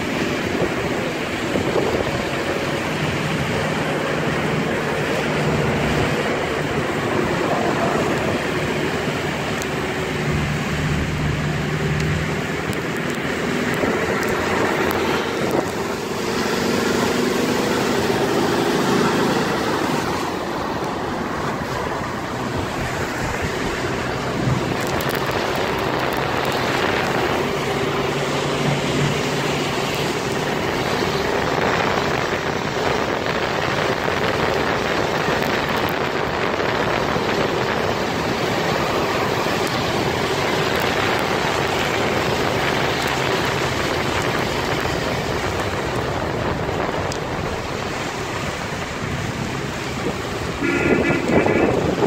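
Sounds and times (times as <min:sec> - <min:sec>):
heavy rain: 0:00.0 - 0:52.0
vehicle engine drone: 0:00.0 - 0:52.0
wind: 0:00.0 - 0:52.0.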